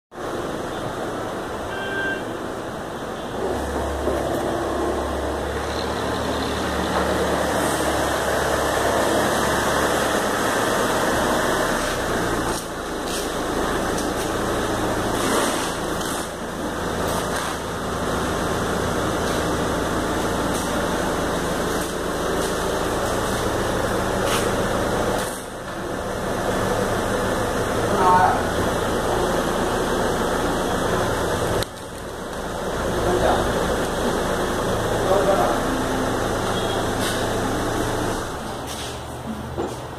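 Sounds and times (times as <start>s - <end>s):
car engine idling: 0.1s - 39.9s.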